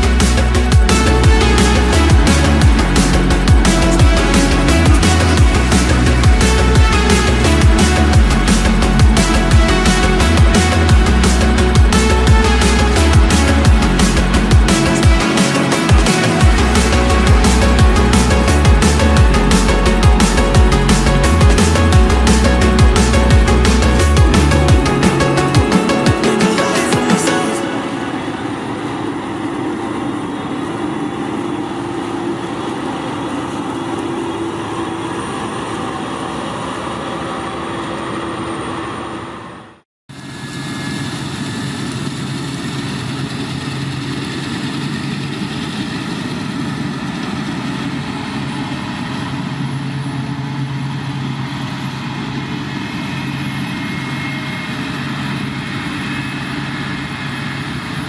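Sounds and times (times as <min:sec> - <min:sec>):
heavy machinery engine running: 0:00.0 - 0:58.0.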